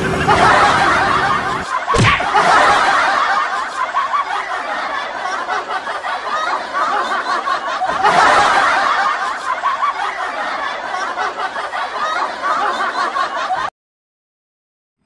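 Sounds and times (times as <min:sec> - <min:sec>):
people laughing: 0:00.0 - 0:13.7.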